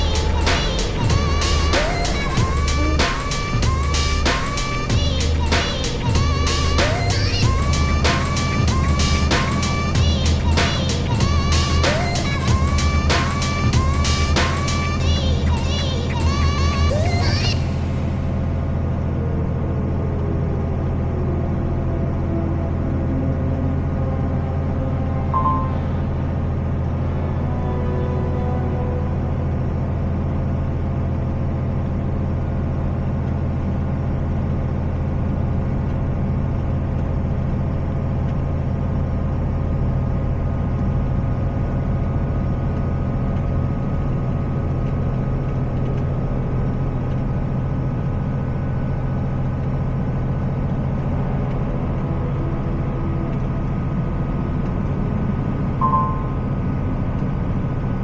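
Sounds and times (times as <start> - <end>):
diesel truck engine humming: 0.0 - 58.0.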